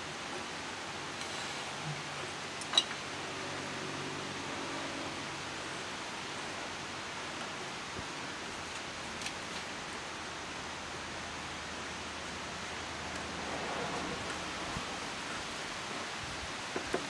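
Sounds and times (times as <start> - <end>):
outdoor ambience rushing noise: 0.0 - 17.0.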